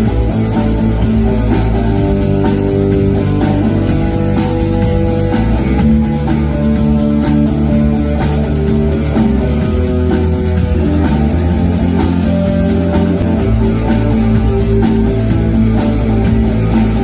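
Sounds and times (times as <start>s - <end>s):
bass line: 0.0s - 17.0s
drum kit: 0.0s - 17.0s
electric guitar: 0.0s - 17.0s.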